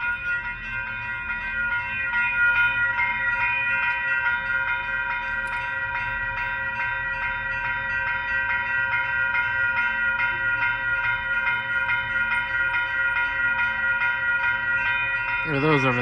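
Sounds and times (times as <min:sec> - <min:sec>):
crossing warning bell dinging: 0:00.0 - 0:16.0
low train rumble: 0:00.0 - 0:16.0.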